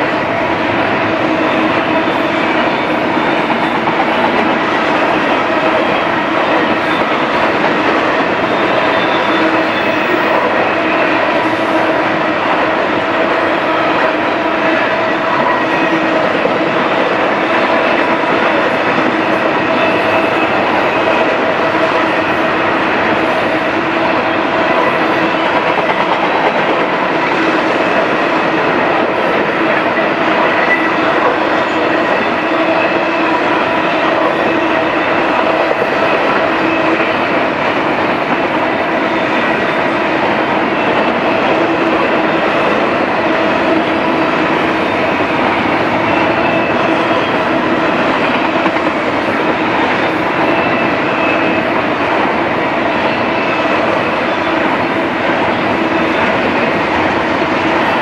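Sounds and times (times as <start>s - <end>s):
freight train rolling past: 0.0s - 58.0s
steel wheels on rails: 0.0s - 58.0s.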